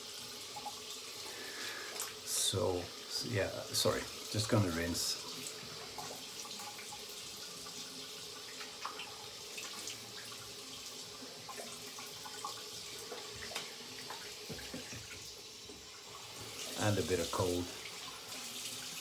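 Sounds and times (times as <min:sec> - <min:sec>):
tap running into a sink: 0:03.6 - 0:19.0.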